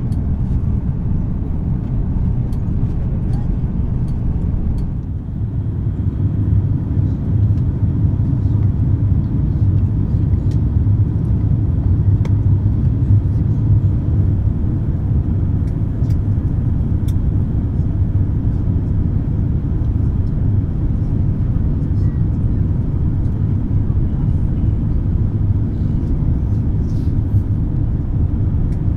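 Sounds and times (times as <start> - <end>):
aircraft cabin engine rumble: 0.0 - 28.9.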